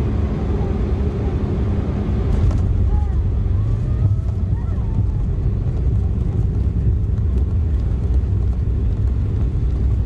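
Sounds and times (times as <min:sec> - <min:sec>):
jet cabin engine rumble: 0:00.0 - 0:10.0.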